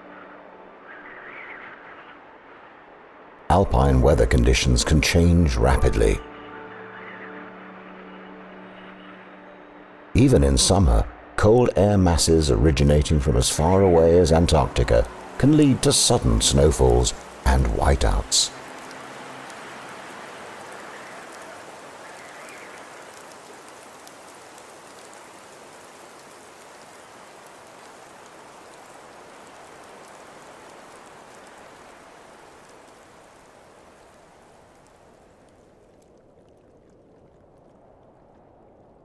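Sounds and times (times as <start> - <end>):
steady rain with drop ticks: 0.0 - 39.0.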